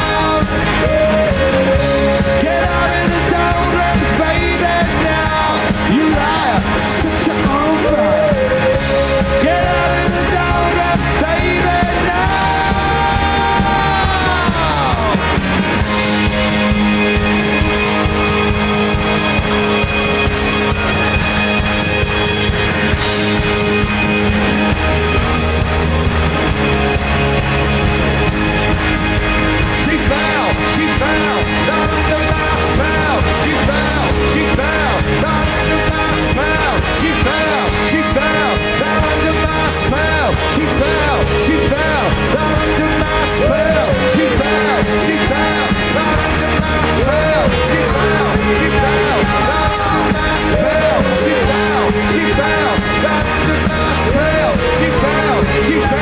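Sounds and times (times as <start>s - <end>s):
guitar lead line bending notes: 0.0s - 56.0s
rock band playing live: 0.0s - 56.0s.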